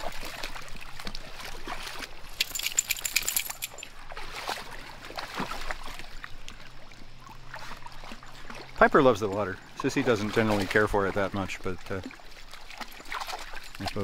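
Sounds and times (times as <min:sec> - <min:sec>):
water trickling over rocks: 0:00.0 - 0:04.3, 0:05.8 - 0:14.0
dogs splashing in water: 0:00.0 - 0:14.0.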